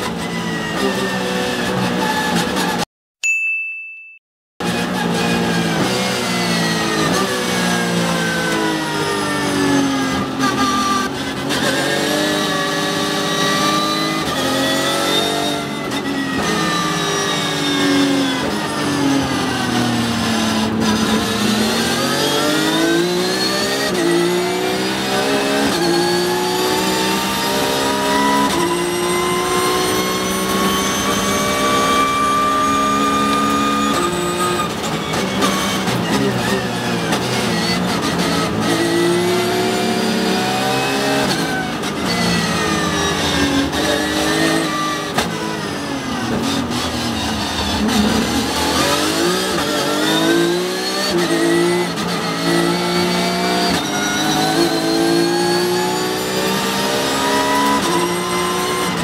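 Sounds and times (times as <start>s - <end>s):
race car engine at full throttle: 0.0s - 2.8s, 4.6s - 59.0s.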